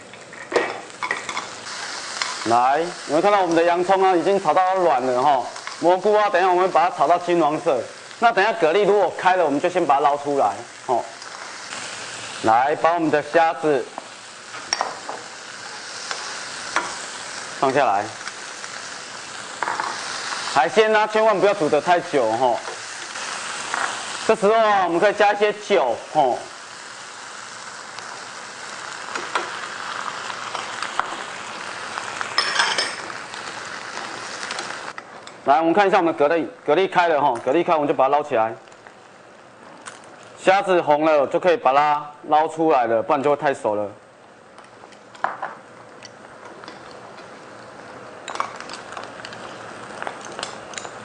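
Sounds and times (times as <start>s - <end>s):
seafood sizzling in a pan: 0.0s - 42.6s, 43.3s - 51.0s.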